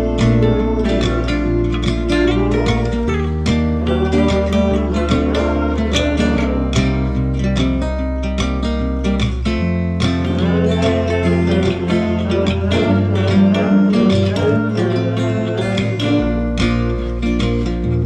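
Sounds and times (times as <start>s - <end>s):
bass line: 0.0s - 18.0s
plucked guitar notes: 0.0s - 18.0s.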